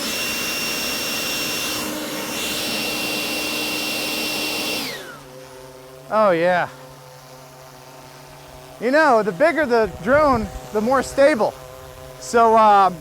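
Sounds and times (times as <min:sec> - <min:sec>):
high-speed blower whining: 0:00.0 - 0:13.0.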